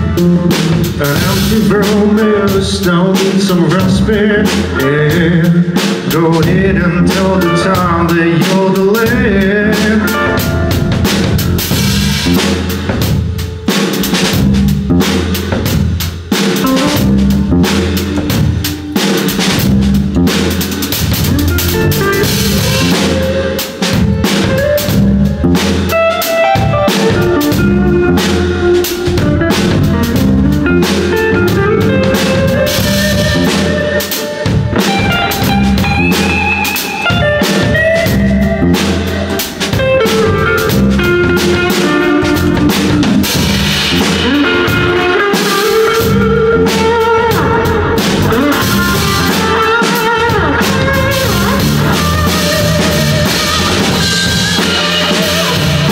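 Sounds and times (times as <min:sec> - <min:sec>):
bass: 0:00.0 - 0:55.9
drum kit: 0:00.0 - 0:55.9
melodic lead line: 0:06.5 - 0:55.9.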